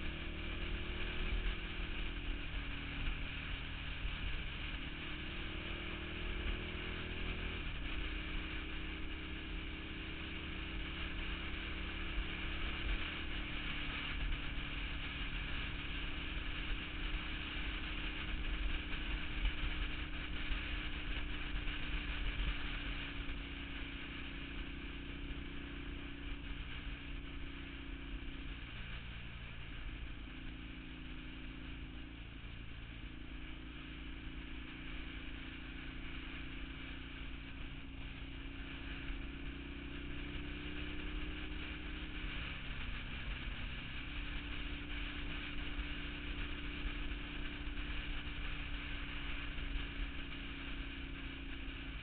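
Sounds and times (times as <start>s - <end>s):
road and wind noise: 0.0s - 52.0s
vehicle engine droning: 0.0s - 52.0s.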